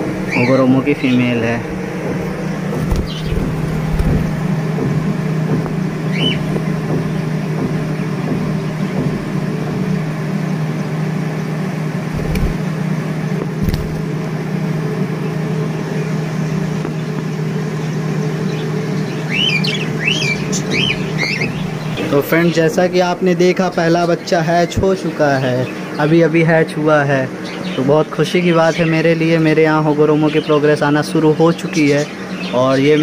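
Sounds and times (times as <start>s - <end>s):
birds chirping: 0.0s - 33.0s
low mechanical hum: 0.0s - 33.0s.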